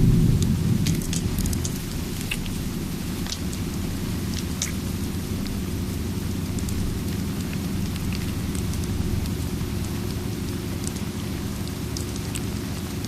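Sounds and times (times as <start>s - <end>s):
low thunder rumble: 0.0s - 11.7s
fire crackling and popping: 0.0s - 13.0s
steady rain: 0.0s - 13.0s.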